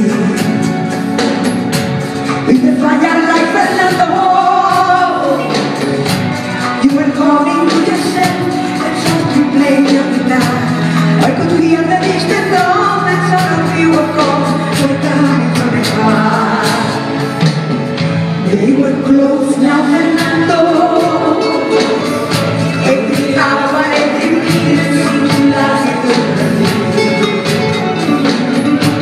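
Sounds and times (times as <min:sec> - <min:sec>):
woman singing into microphone: 0:00.0 - 0:01.1, 0:02.4 - 0:06.0, 0:06.6 - 0:29.0
live band with drums and keyboards: 0:00.0 - 0:29.0.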